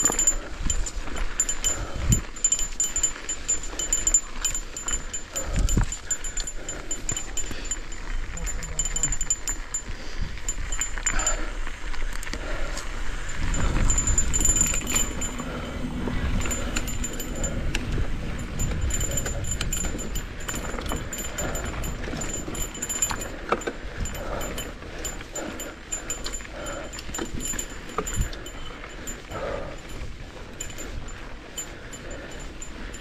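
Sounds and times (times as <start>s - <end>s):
bike rattling and clinking: 0.0s - 33.0s
tyre and wind rumble: 0.0s - 33.0s.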